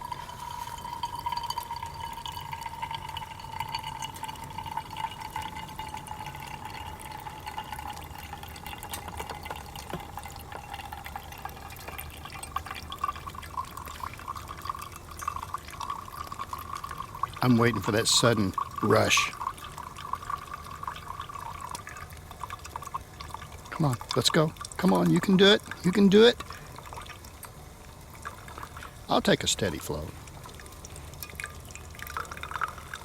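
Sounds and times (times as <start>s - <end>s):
water crackling and bubbling: 0.0s - 33.0s.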